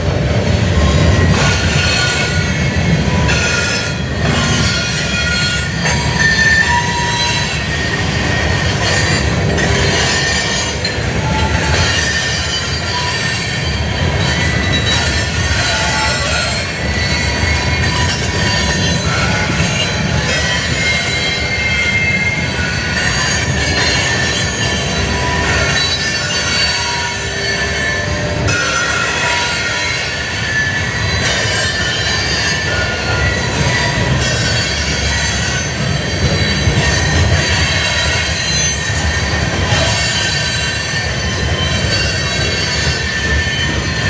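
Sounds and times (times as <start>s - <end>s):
freight train cars rumbling past: 0.0s - 44.0s
wheels squealing on rails: 0.0s - 44.0s.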